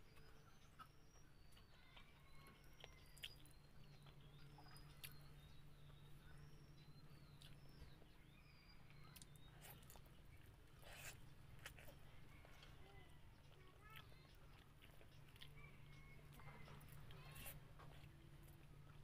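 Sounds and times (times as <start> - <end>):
faint chewing and clicks: 0.0 - 19.0
low steady hum: 0.0 - 19.0.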